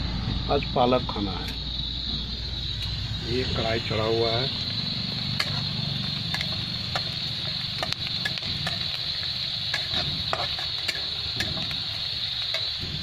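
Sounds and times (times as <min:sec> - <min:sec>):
vegetables sizzling in oil: 0:01.4 - 0:13.0.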